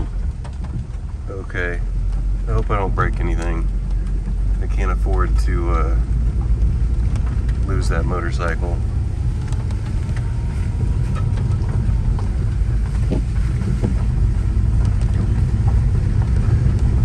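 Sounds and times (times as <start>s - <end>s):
car tyres on gravel road: 0.0s - 17.0s.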